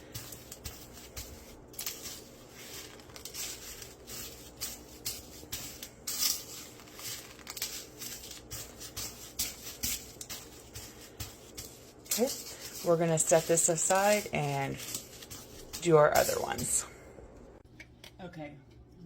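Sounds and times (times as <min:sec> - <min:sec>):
breadcrumbs crunching and rustling: 0:00.0 - 0:16.8.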